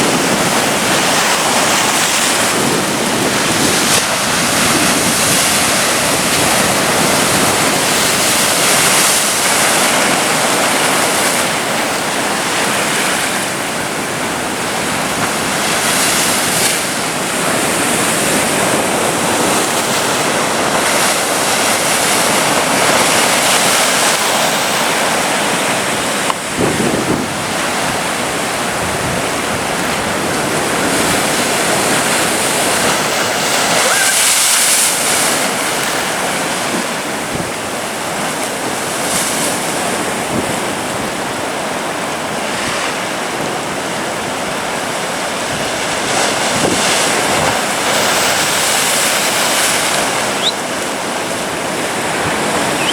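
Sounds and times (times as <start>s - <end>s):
surf breaking on beach: 0.0s - 52.9s.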